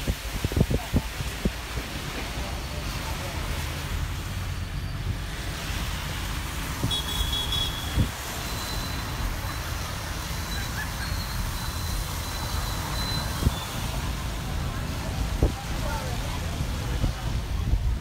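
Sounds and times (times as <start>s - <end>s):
car engine and road rumble: 0.0s - 18.0s
tyres hissing on wet road: 0.0s - 18.0s.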